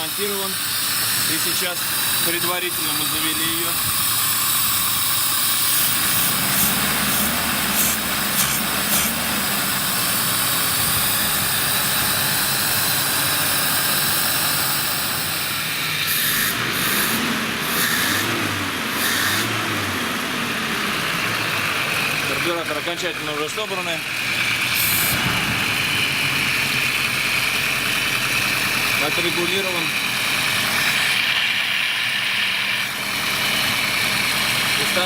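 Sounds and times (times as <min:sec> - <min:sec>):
petrol engine idling: 0:00.0 - 0:35.0.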